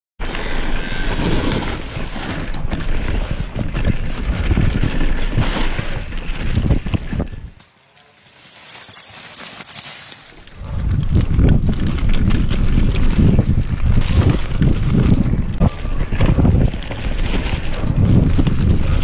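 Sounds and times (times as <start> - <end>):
bike tyres rolling over dirt: 0.2 - 7.6, 8.2 - 19.0.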